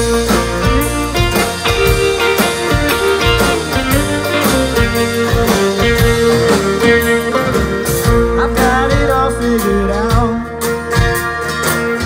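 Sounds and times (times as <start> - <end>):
acoustic guitar strumming: 0.0 - 12.0
drum kit: 0.0 - 12.0
live band playing country-pop: 0.0 - 12.0.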